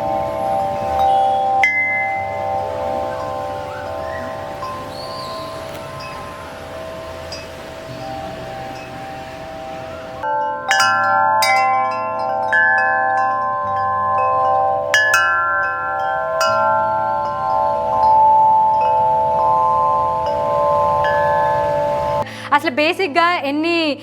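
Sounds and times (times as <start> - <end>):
wind chime ringing: 0.0 - 22.3.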